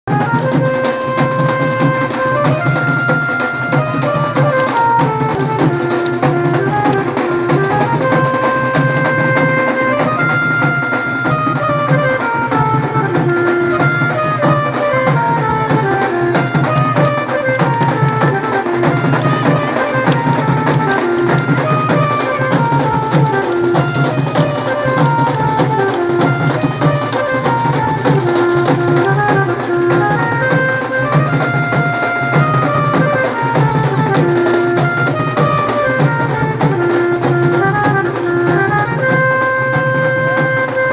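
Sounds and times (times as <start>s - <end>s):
stepwise melody: 0.0s - 40.9s
fast drum rhythm: 0.1s - 40.9s.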